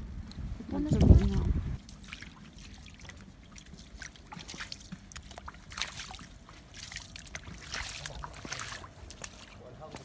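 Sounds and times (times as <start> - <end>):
footsteps in wet slush: 1.0 - 10.0.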